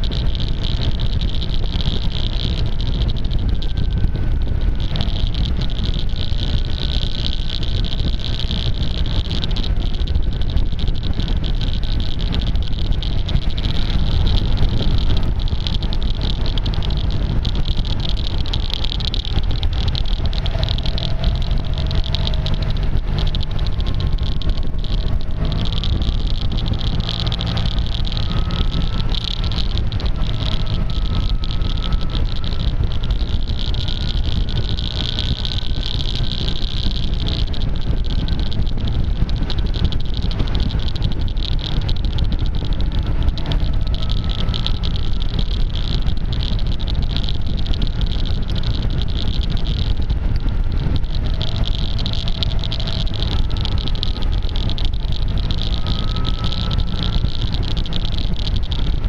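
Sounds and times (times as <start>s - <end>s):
faint engine whine: 0.0s - 59.0s
tape crackling clicks: 0.0s - 59.0s
wind rushing over microphone: 0.0s - 59.0s.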